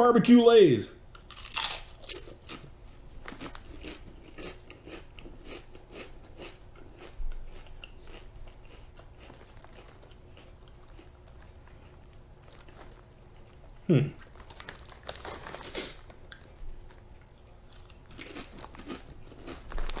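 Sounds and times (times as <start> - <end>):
person chewing crisp chips: 1.1 - 20.0.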